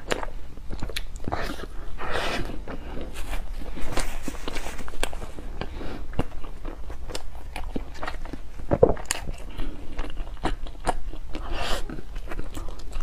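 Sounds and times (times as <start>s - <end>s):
chewing with mouth clicks: 0.0s - 13.0s.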